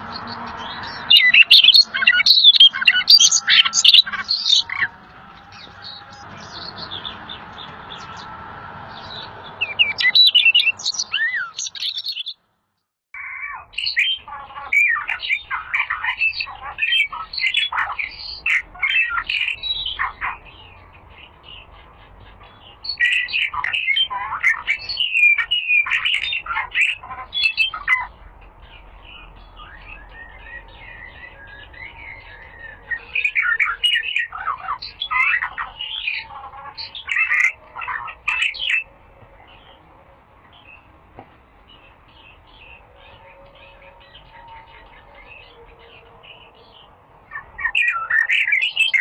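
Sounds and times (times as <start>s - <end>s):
songbird singing: 0.0s - 12.4s, 13.2s - 49.0s.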